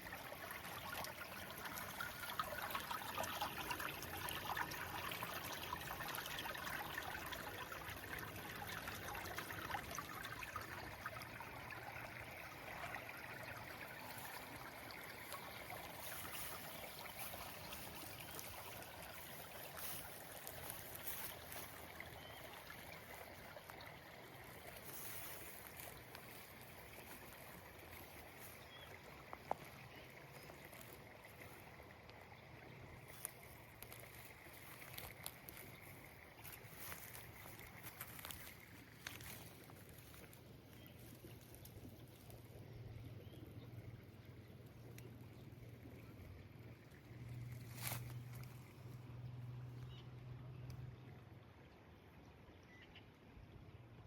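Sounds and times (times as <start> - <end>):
water trickling and splashing: 0.0 - 53.3.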